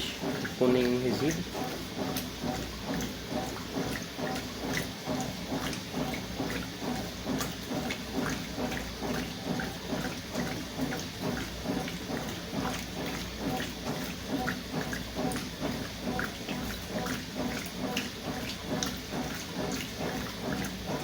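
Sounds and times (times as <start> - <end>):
washing machine sloshing and churning: 0.0 - 21.0.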